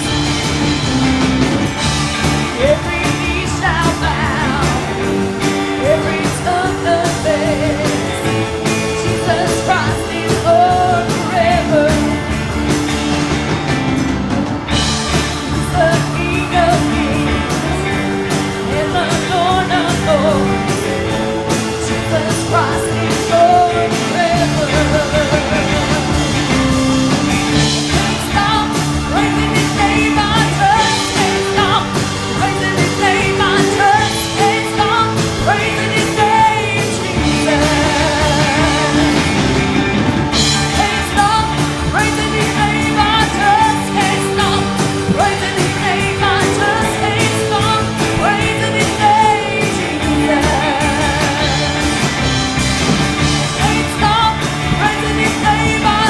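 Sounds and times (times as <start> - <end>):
band playing: 0.0 - 56.0
people singing: 0.0 - 56.0.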